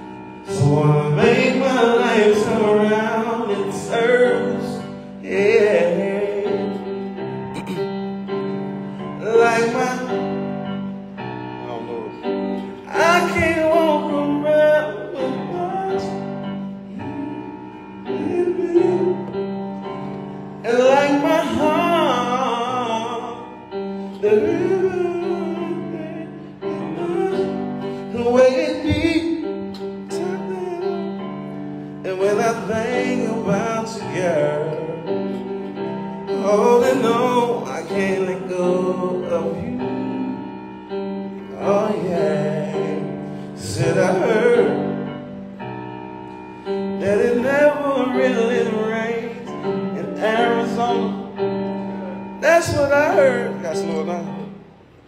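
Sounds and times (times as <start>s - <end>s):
person singing with vibrato: 0.0s - 11.1s, 11.9s - 45.6s, 46.4s - 55.0s
sustained keyboard chords: 0.0s - 55.0s.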